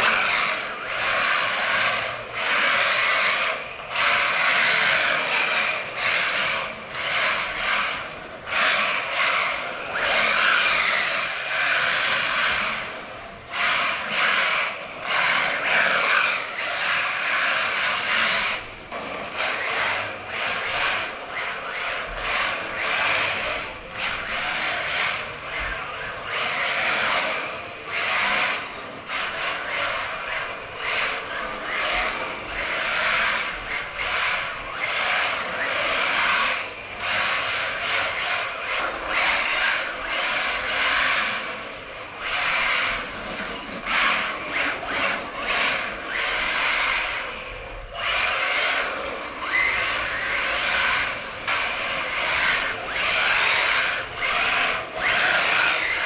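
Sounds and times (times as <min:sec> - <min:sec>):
electric motor whine: 0:00.0 - 0:56.0
tires scrubbing on concrete: 0:00.0 - 0:56.0.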